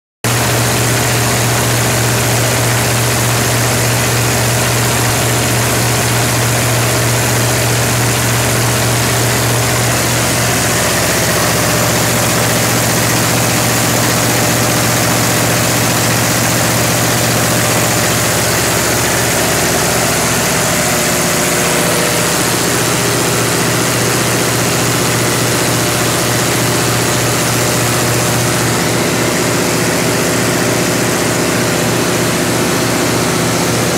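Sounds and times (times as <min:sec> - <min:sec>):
generator engine drone: 0:00.3 - 0:33.9.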